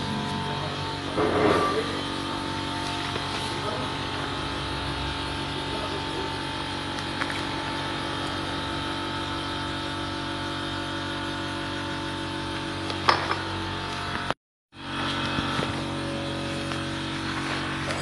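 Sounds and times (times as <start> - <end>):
machine hum with fixed tones: 0.0 - 18.0.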